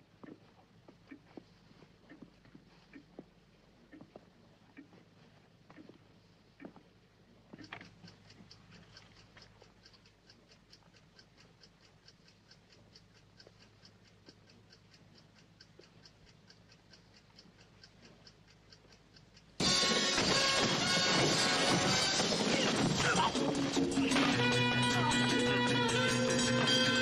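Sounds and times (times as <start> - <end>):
clock ticking: 0.0 - 27.0.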